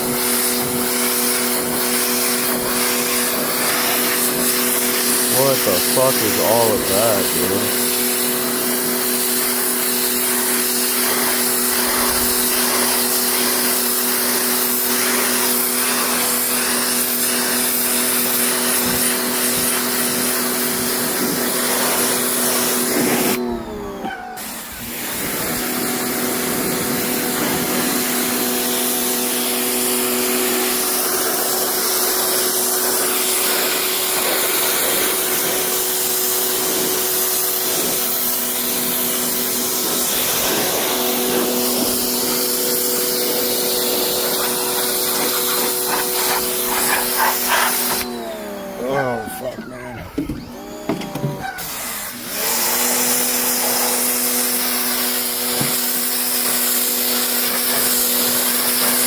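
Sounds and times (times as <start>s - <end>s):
water spraying hiss: 0.0s - 23.4s, 24.5s - 48.0s, 53.0s - 59.0s
pressure washer motor whine: 0.0s - 59.0s.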